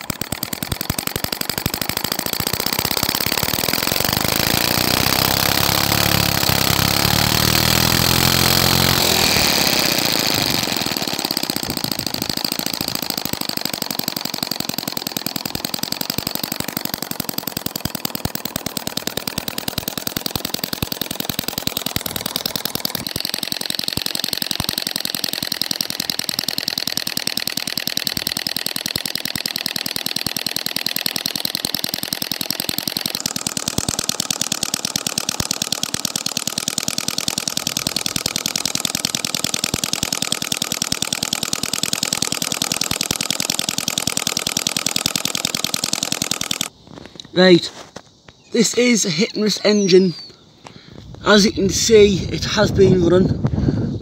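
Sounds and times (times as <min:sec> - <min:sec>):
small engine ticking clatter: 0:00.0 - 0:53.3.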